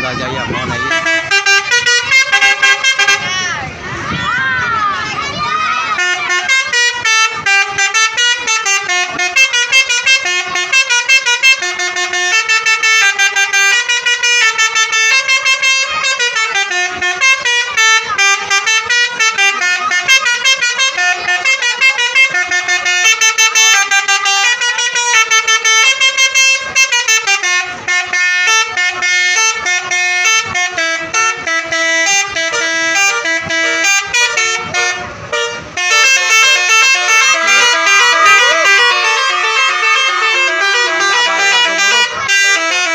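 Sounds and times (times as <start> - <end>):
musical bus horns playing tunes: 0.0 - 4.0, 5.0 - 42.9.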